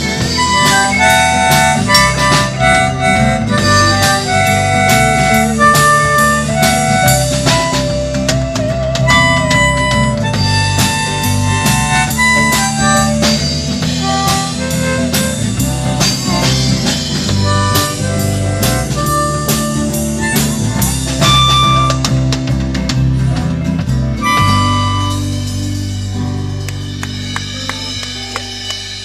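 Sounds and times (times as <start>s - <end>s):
live country-rock band playing: 0.0s - 29.0s.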